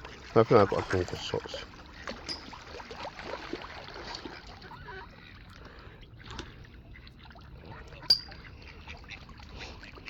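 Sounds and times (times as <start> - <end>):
ducks and geese splashing: 0.0 - 10.0.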